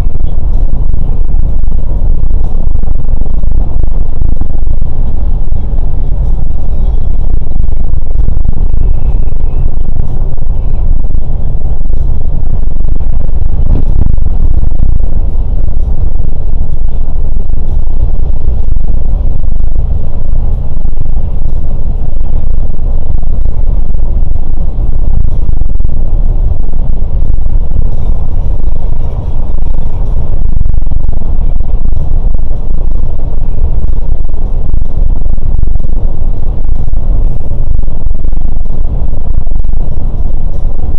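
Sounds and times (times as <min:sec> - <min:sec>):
coach engine rumble: 0:00.0 - 0:40.9
road noise: 0:00.0 - 0:40.9.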